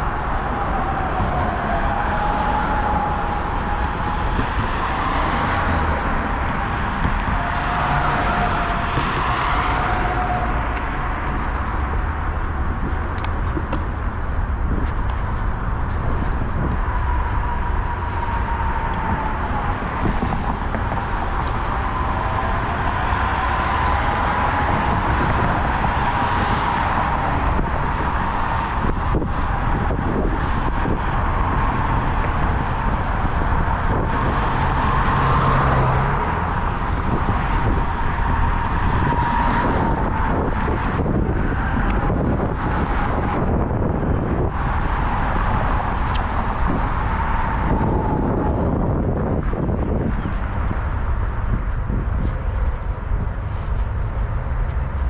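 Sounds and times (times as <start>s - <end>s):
road traffic passing: 0.0s - 55.0s.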